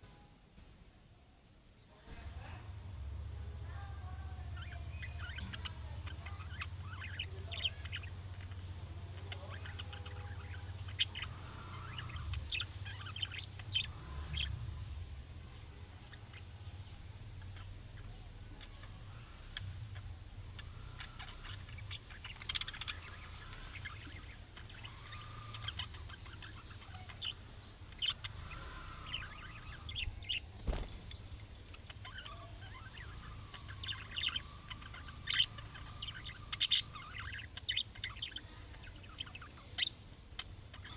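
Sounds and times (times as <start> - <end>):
low steady hum: 1.2 - 40.9
budgerigars chattering: 3.1 - 40.9.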